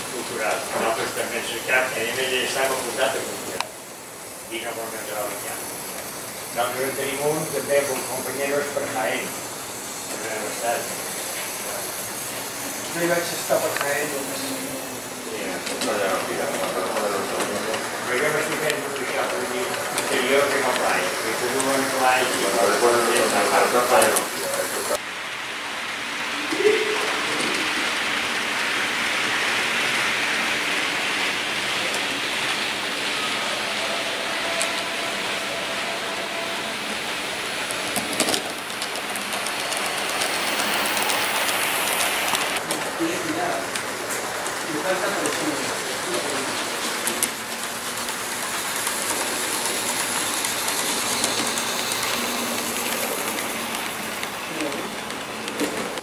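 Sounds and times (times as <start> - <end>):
model train wheels rolling: 0.0 - 56.0.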